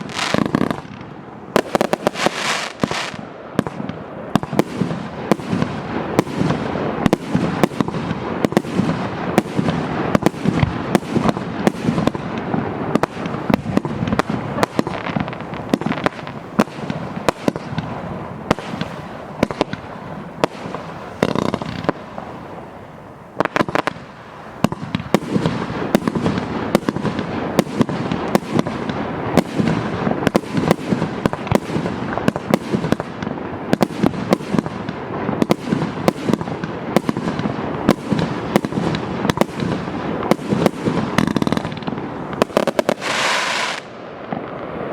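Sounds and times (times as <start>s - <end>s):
fireworks hiss: 0.0s - 0.9s, 1.6s - 44.9s
fireworks bangs: 0.0s - 44.9s.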